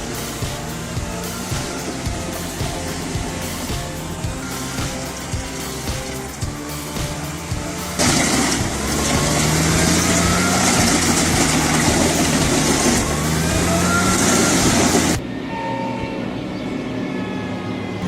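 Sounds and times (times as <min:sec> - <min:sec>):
wood chipper engine humming: 0:00.0 - 0:15.2.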